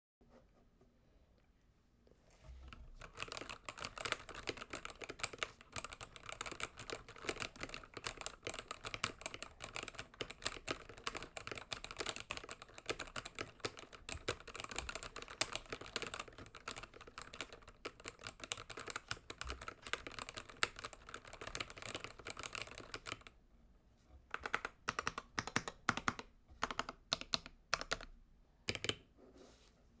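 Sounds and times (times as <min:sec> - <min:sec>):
keyboard typing: 0:02.9 - 0:23.3, 0:24.3 - 0:28.1, 0:28.7 - 0:29.1.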